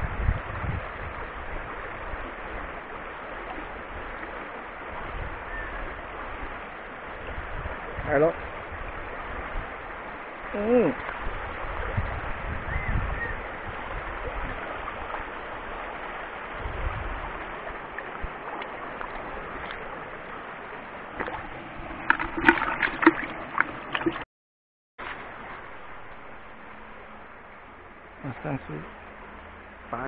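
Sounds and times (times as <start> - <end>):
stream water rushing: 0.0 - 24.2, 25.0 - 30.0.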